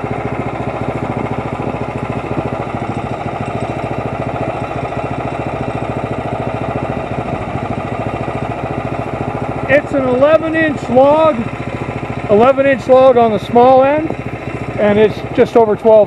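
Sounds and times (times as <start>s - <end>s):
small gasoline engine idling: 0.0s - 16.0s.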